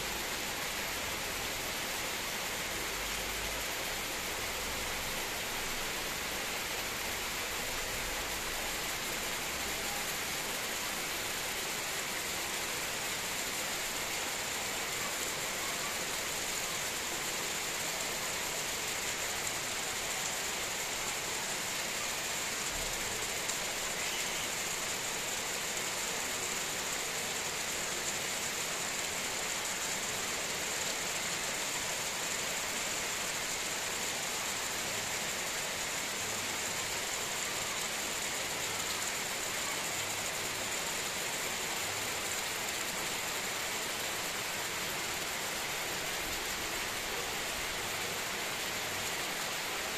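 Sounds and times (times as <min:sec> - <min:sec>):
heavy rain on foliage: 0:00.0 - 0:49.9.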